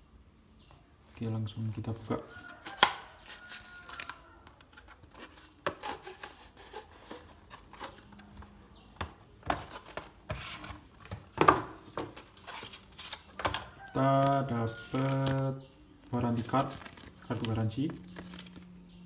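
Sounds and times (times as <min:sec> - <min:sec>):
cardboard and plastic packaging rubbing: 0:01.5 - 0:19.0.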